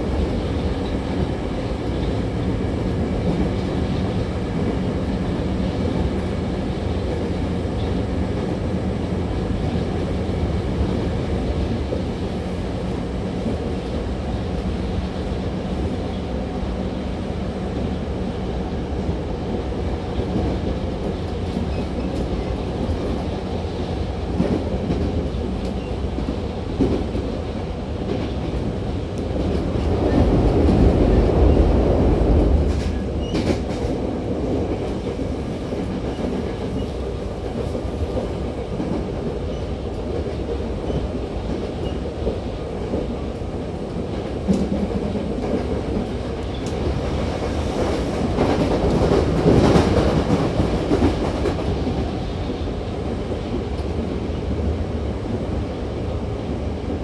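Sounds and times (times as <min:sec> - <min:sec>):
train rolling rumble: 0:00.0 - 0:57.0.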